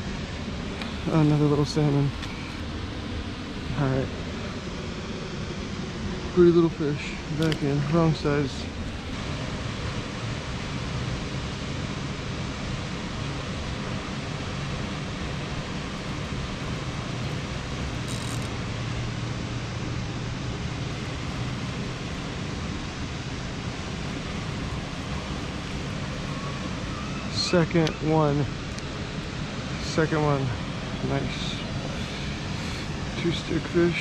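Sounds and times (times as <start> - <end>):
fast-flowing river water: 5.4 - 34.0.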